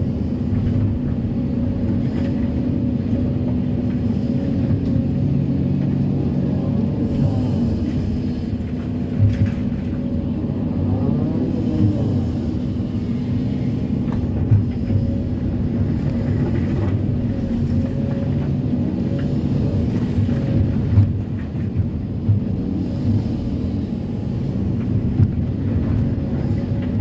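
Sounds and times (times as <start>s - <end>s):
excavator diesel engine with whine: 0.0s - 27.0s.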